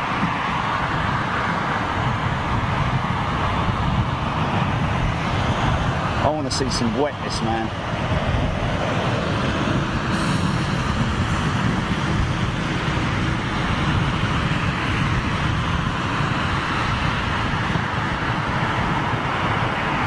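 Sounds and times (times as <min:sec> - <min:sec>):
low rumbling outdoor background: 0:00.0 - 0:20.0.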